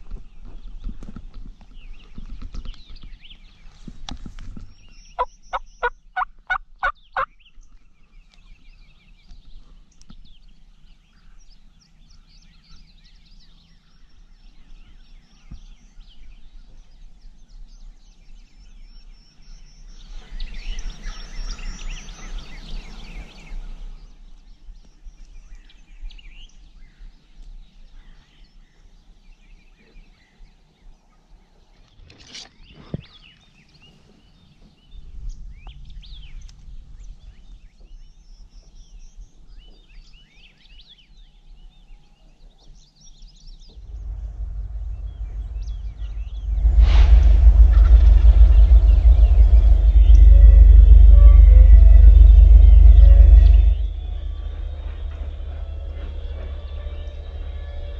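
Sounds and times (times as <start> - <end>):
songbirds chirping: 0.0 - 57.9.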